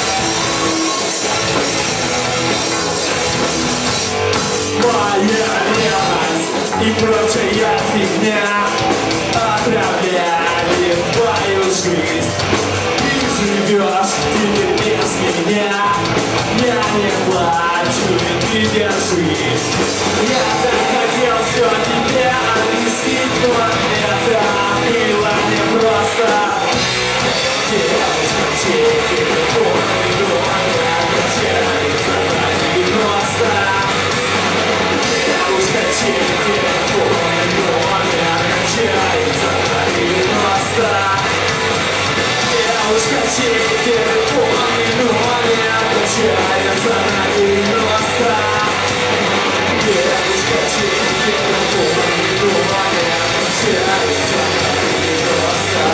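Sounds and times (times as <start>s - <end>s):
rock band playing live: 0.0s - 55.9s
vocals: 0.0s - 55.9s.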